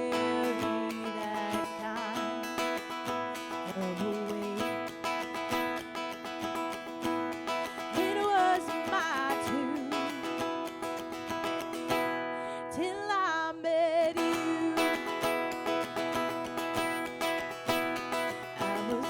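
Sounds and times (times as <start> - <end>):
person singing with vibrato: 0.0 - 5.8, 6.8 - 19.0
acoustic guitar strumming: 0.0 - 19.0.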